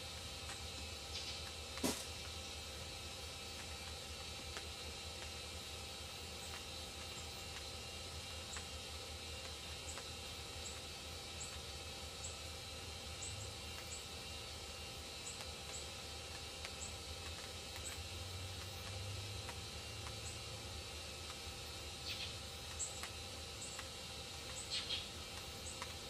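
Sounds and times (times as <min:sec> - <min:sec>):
low hum and hiss: 0:00.0 - 0:26.0.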